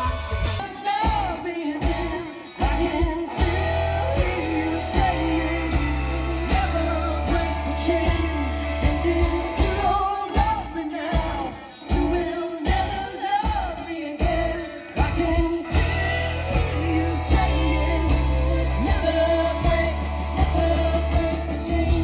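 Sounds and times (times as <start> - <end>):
bass line: 0.0 - 22.0
lead vocal singing: 0.0 - 22.0
rock band playing: 0.0 - 22.0.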